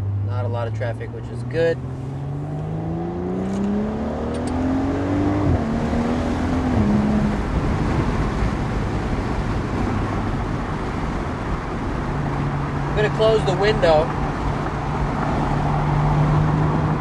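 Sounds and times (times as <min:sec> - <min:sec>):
car engine accelerating: 0:00.0 - 0:17.0
wind and road noise: 0:00.0 - 0:17.0.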